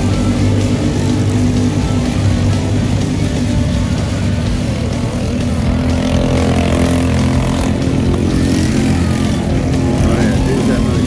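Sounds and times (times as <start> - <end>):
go-kart engine buzzing: 0.0 - 11.0.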